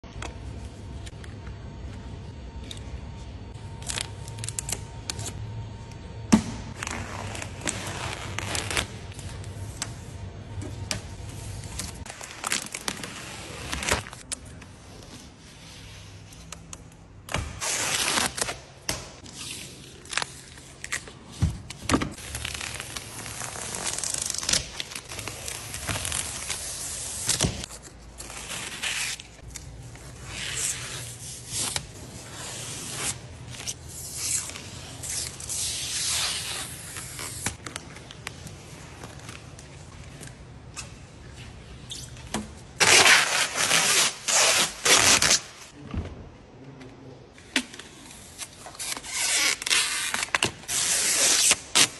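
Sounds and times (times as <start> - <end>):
plastic film peeling and crinkling: 6.7 - 45.8, 47.5 - 51.9.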